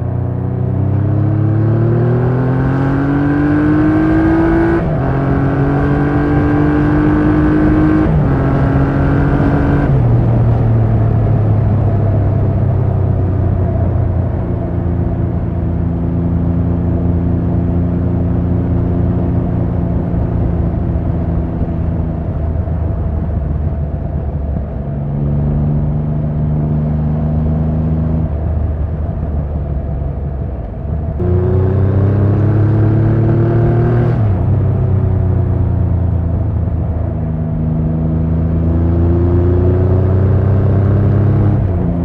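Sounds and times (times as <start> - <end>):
motorcycle engine and exhaust: 0.0 - 42.0.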